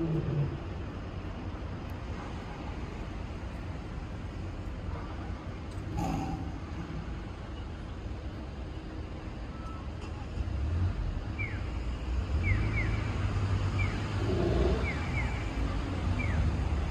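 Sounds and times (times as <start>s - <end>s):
traffic rumble: 0.0s - 16.9s
wind: 0.0s - 16.9s.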